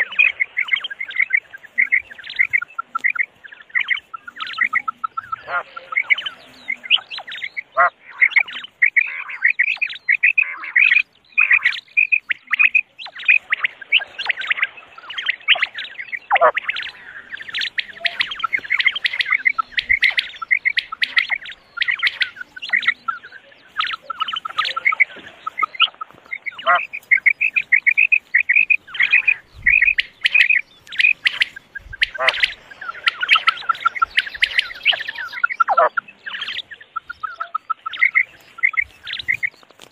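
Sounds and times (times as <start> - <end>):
quails chirping: 0.0 - 39.9.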